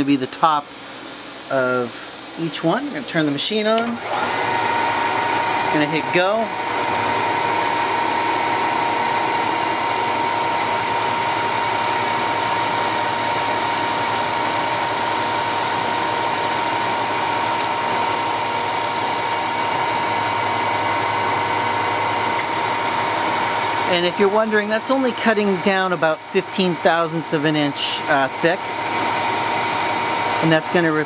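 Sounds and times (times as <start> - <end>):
milling machine spindle whirring: 2.8 - 31.0.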